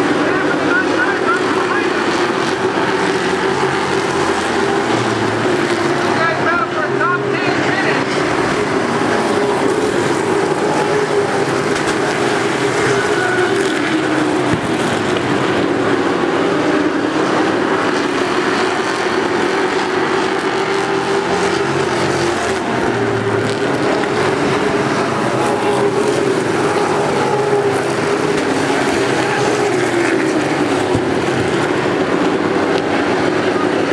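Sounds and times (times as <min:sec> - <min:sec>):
race truck engines droning: 0:00.0 - 0:33.9.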